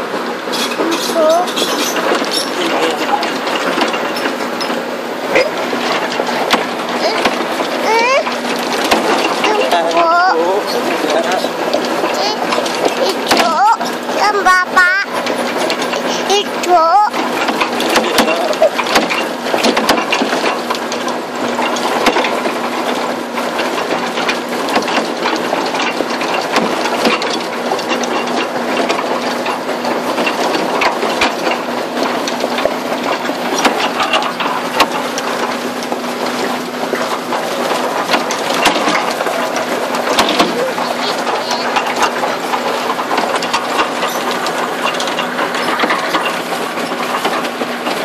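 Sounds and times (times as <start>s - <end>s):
diesel engine hum: 0.0s - 48.0s
track links clattering: 0.0s - 48.0s.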